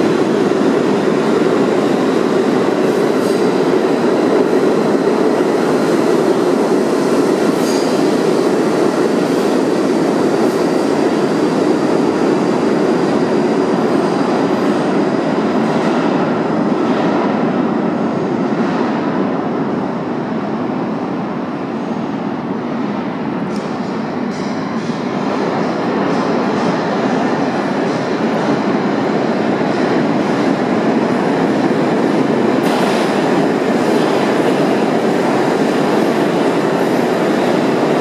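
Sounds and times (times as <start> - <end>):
train rumble and wheel clatter: 0.0 - 38.0.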